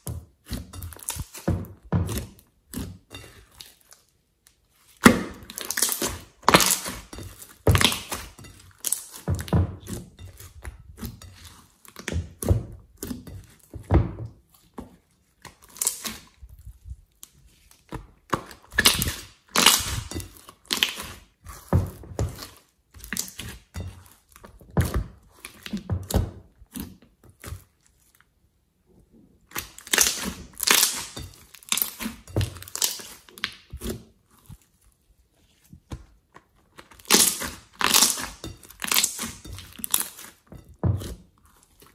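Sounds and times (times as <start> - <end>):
slime squelching: 0.0 - 41.9.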